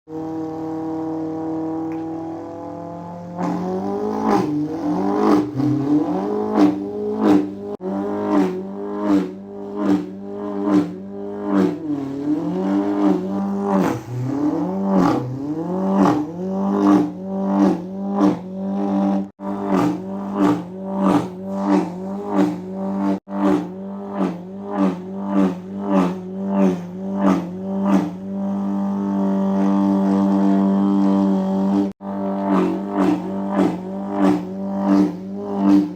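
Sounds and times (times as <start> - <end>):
person imitating engine revving: 0.1 - 35.9.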